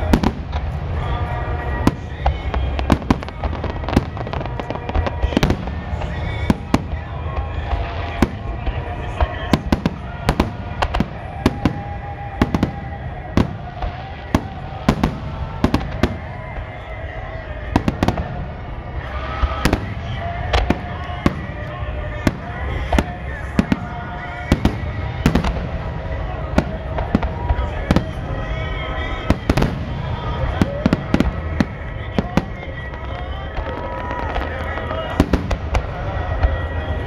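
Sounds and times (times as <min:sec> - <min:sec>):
music playing: 0:00.0 - 0:37.0.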